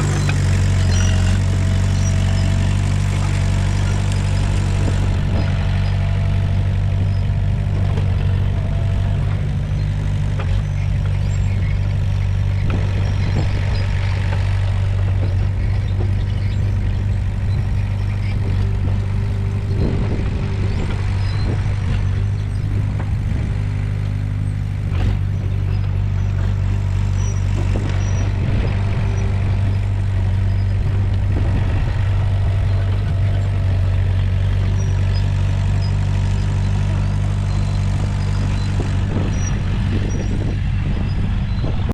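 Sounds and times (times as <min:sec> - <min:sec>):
bulldozer diesel engine running: 0:00.0 - 0:41.9.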